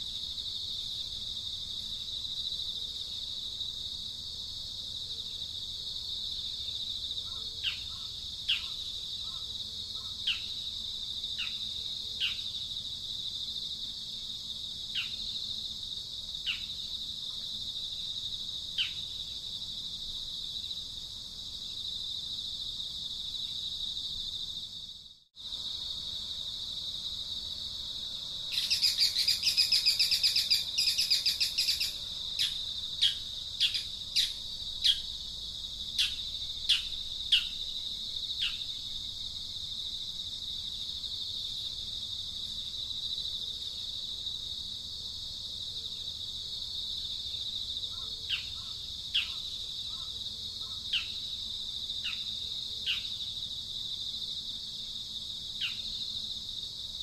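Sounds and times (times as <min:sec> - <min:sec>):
high insect buzz: 0:00.0 - 0:57.0.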